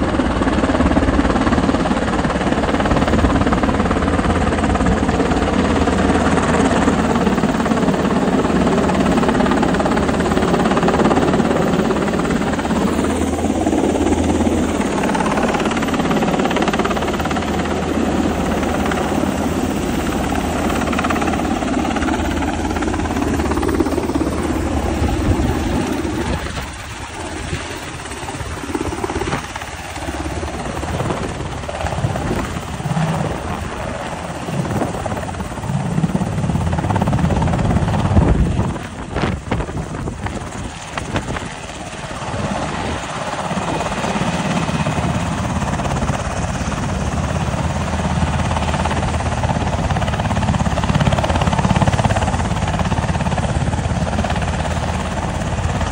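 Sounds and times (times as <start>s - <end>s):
helicopter rotor and turbine noise: 0.0s - 55.9s.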